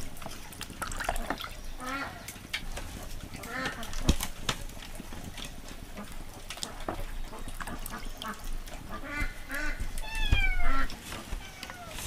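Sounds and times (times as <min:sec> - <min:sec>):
wet hands handling fish: 0:00.0 - 0:12.0.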